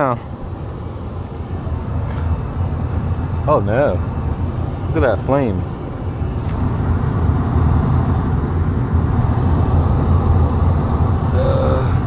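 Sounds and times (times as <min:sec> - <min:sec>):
gas furnace burners rumbling: 0:00.0 - 0:12.0.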